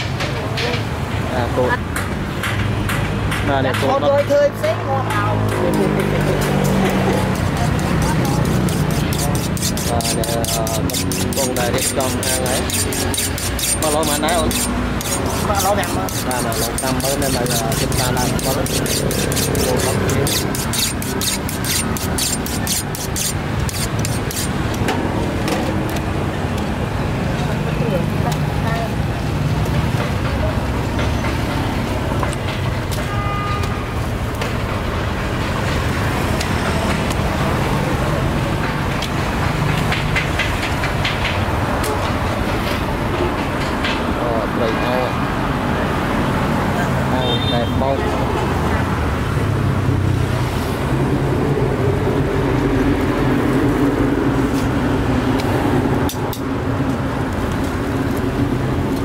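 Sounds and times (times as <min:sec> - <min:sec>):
traffic rumble: 0:00.0 - 0:59.0.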